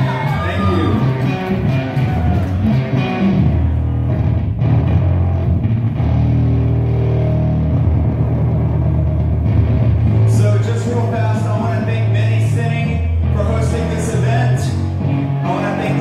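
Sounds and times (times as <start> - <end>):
loud rock music with electric guitar: 0.0 - 16.0.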